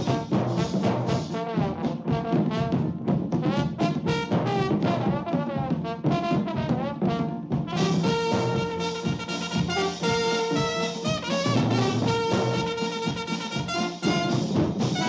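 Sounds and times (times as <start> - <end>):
brass swing band music: 0.0 - 15.0.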